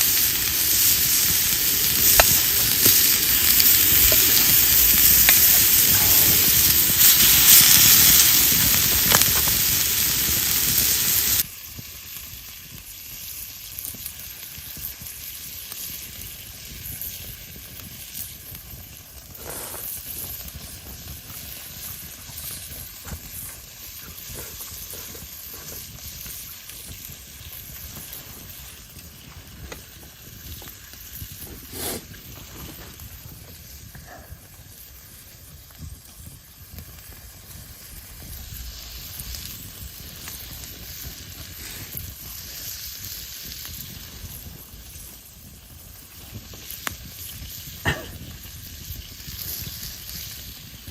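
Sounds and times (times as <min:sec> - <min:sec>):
meat sizzling over fire: 0:00.0 - 0:50.9.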